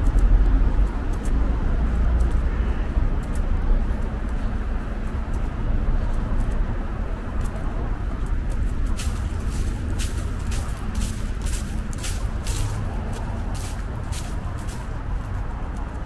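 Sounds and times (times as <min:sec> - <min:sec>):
distant road traffic rumble: 0:00.0 - 0:16.0
footsteps on paved path: 0:00.0 - 0:16.0.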